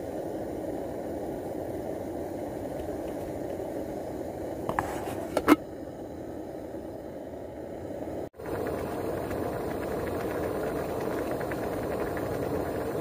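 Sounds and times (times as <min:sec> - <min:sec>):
stew boiling in a pot: 0:00.0 - 0:13.0.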